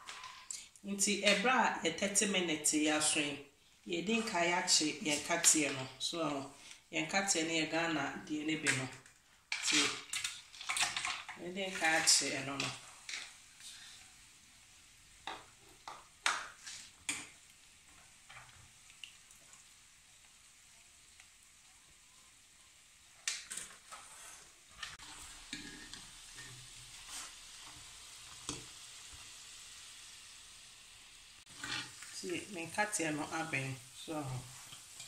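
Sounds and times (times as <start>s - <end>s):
nuts sizzling in hot oil: 0.0s - 35.0s.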